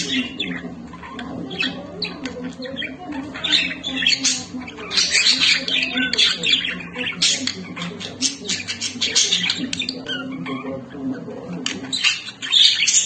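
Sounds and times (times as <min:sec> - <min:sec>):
lovebirds chattering and squawking: 0:00.0 - 0:13.0.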